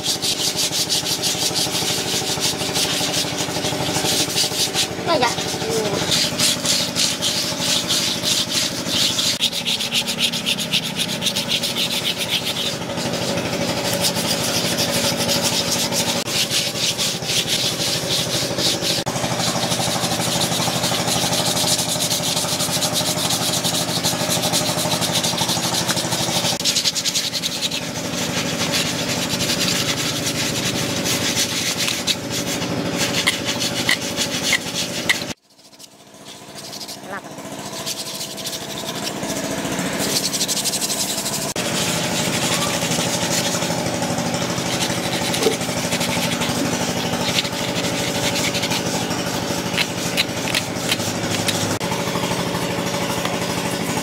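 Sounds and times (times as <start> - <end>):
sandpaper rubbing on wood: 0.0 - 54.0.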